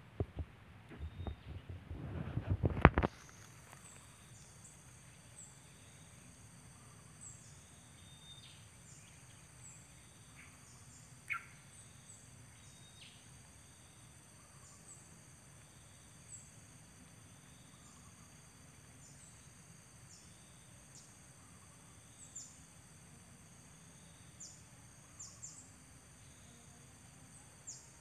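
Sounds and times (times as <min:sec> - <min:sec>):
insects chirring: 0:00.2 - 0:28.0.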